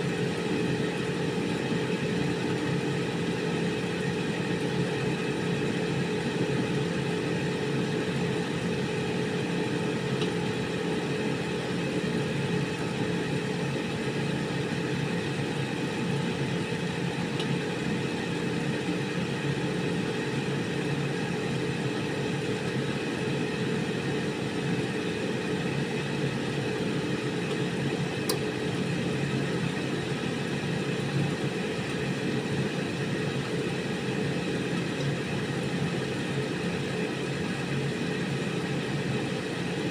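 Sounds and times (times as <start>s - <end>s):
air fryer fan whirring: 0.0s - 39.9s.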